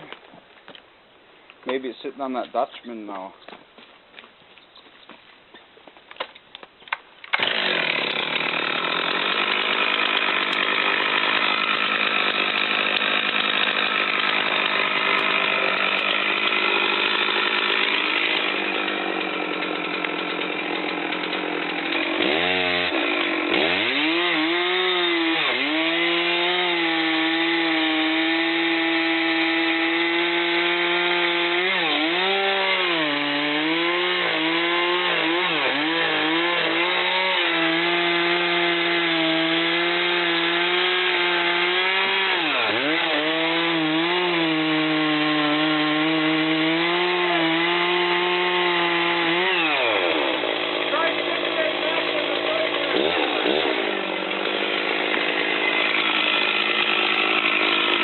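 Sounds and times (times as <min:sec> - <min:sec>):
chainsaw cutting tree: 0:07.2 - 0:58.0.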